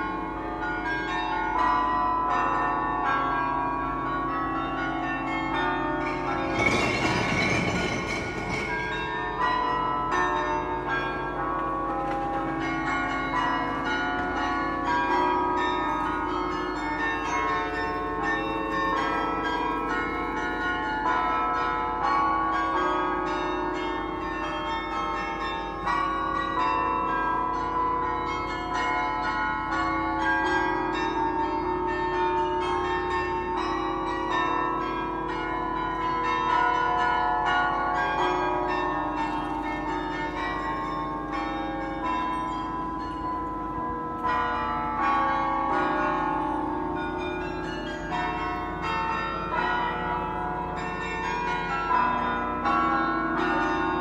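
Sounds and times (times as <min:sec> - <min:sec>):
carillon bells playing a melody: 0:00.0 - 0:54.0.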